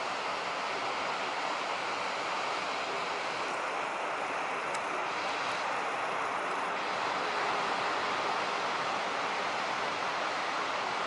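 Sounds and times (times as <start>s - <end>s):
heavy ocean surf roaring: 0.0s - 11.0s.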